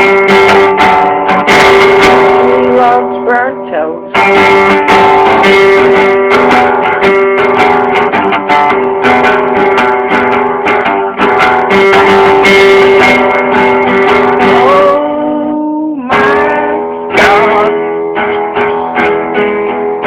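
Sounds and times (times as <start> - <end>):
guitar strumming: 0.0 - 20.0.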